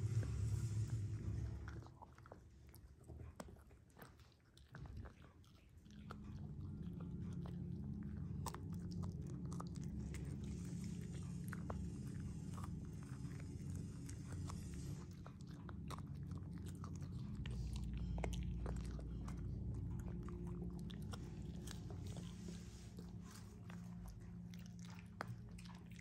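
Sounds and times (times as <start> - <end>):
steady low hum: 0.0 - 4.0, 4.8 - 26.0
dog chewing a bone: 0.0 - 26.0.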